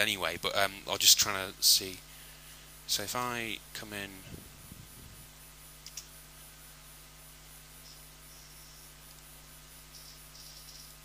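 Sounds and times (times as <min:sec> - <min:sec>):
faint hiss: 0:00.0 - 0:11.0
low electrical hum: 0:00.0 - 0:11.0.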